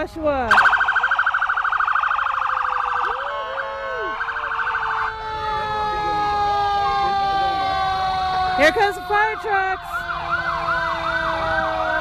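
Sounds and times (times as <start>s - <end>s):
electronic siren warbling: 0.5s - 12.0s.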